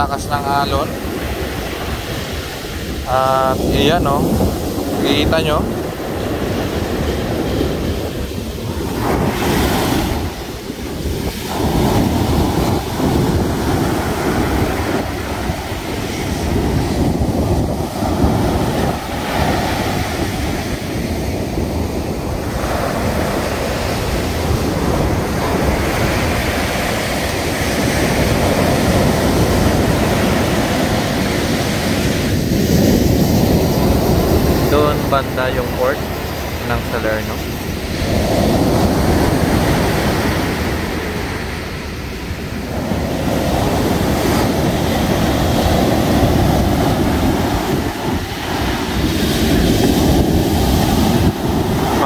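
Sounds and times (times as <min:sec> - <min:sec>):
waves breaking on beach: 0:00.0 - 0:52.0
wind buffeting microphone: 0:00.0 - 0:52.0.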